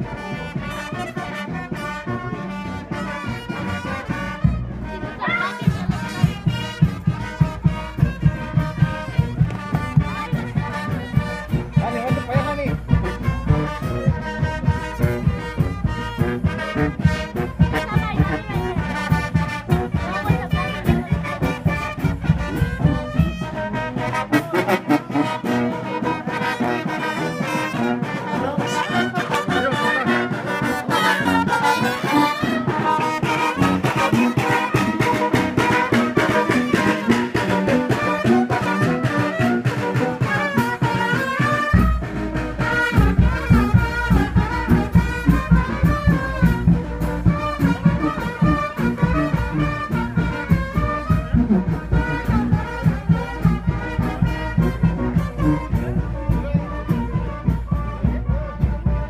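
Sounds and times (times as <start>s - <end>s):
brass band horns playing: 0.0s - 59.0s
bass drum beat: 0.1s - 25.8s, 31.2s - 59.0s.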